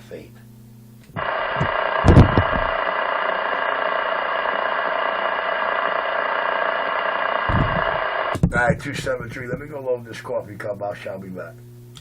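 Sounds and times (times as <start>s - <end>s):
radio static hum: 1.1s - 12.0s.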